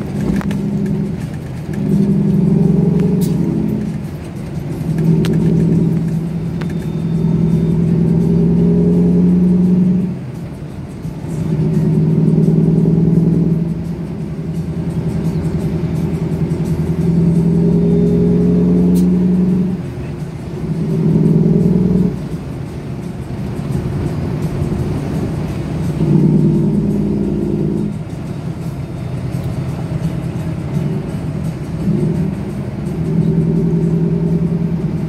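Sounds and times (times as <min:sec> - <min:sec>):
diesel truck engine droning: 0:00.0 - 0:35.0.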